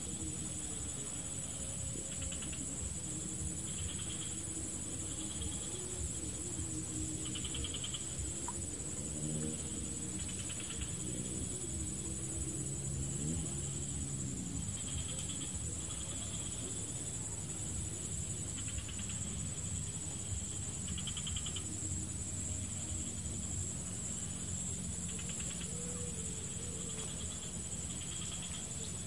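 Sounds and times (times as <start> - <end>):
insect buzzing trills: 0.0 - 29.0
insects whining: 0.0 - 29.0.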